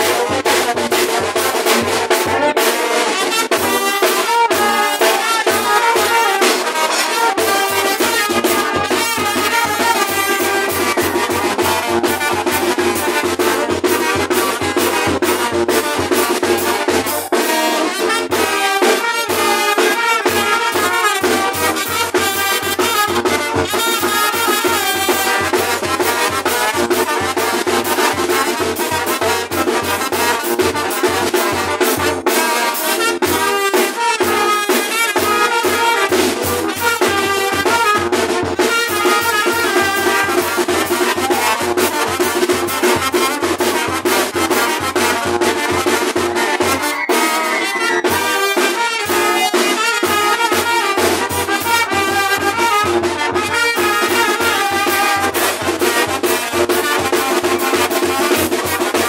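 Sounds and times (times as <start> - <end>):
brass band playing dance music: 0.0 - 59.0
steady drumbeat: 0.0 - 59.0.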